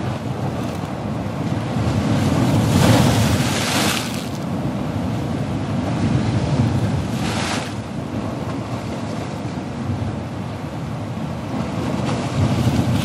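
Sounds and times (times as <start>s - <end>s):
low rumble of surf: 0.0s - 13.0s.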